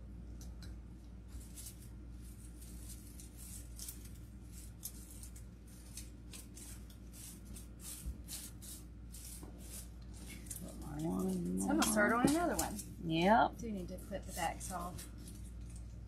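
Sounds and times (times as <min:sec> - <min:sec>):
low steady hum: 0:00.0 - 0:16.0
artificial flower stems rustling: 0:01.0 - 0:16.0.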